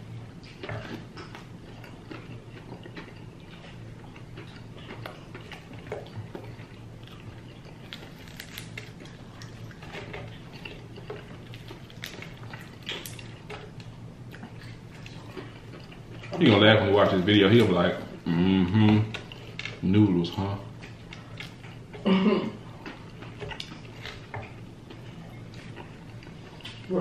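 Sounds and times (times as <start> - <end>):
people chewing food: 0.0 - 27.0
steady low hum: 0.0 - 27.0.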